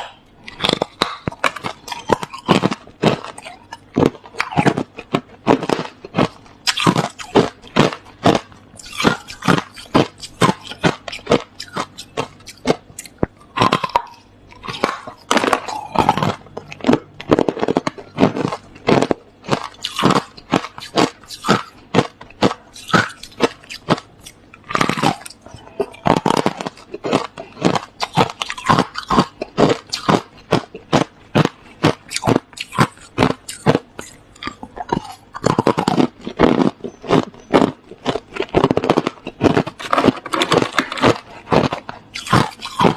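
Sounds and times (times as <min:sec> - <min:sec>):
crushed ice being chewed: 0:00.0 - 0:42.9.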